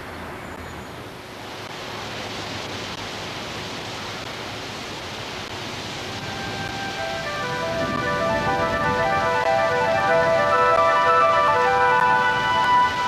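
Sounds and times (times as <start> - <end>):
wind rushing through foliage: 0.0 - 13.0.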